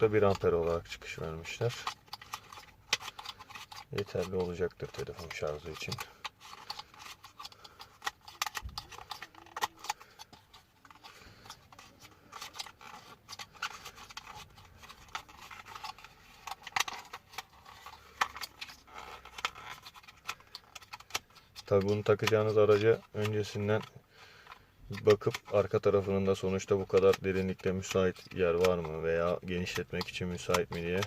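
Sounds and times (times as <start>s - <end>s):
small parts clicking and rattling: 0.0s - 31.0s.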